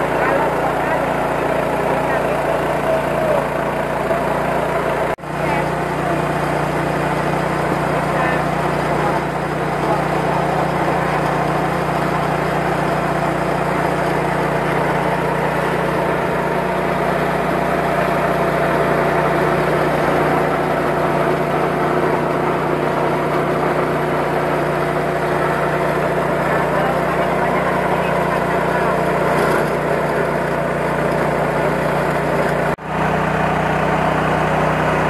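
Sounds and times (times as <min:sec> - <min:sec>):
rice milling machine humming: 0:00.0 - 0:35.0
small engine running steadily: 0:00.0 - 0:35.0.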